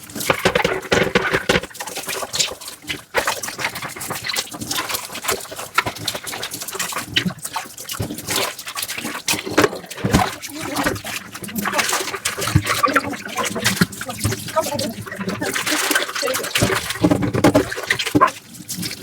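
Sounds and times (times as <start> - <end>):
sponge scrubbing dishes: 0.0 - 19.0
water splashing: 0.0 - 19.0.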